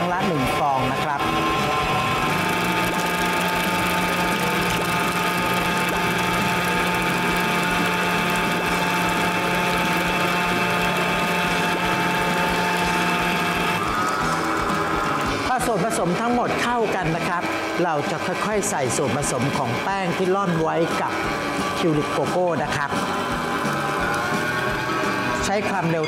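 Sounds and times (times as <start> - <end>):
stand mixer motor humming: 0.0 - 25.7.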